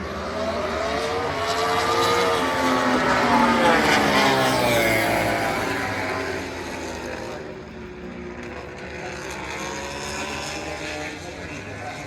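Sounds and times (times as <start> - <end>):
faint motorcycle engine: 0.0 - 12.0
racing motorcycle passing: 0.0 - 12.0.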